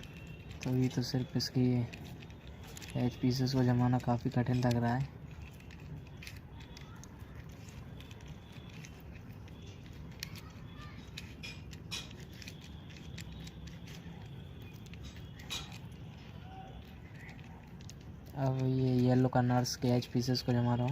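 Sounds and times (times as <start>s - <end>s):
low background hum: 0.0s - 20.9s
puzzle cube plastic clicks: 0.0s - 20.9s.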